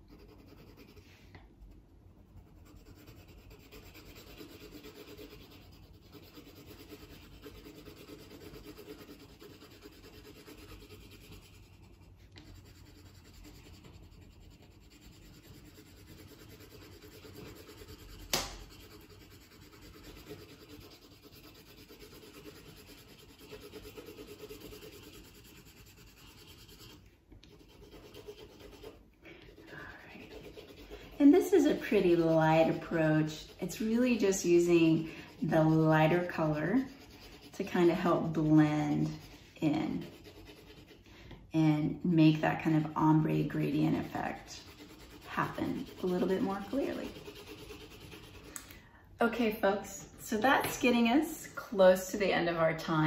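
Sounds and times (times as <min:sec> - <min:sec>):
colored pencil scratching on paper: 0:00.0 - 0:48.6.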